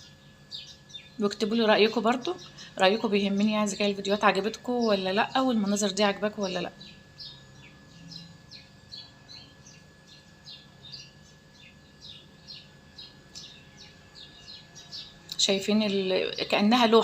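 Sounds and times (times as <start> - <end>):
low steady hum: 0.0 - 17.0
small birds chirping: 0.0 - 17.0.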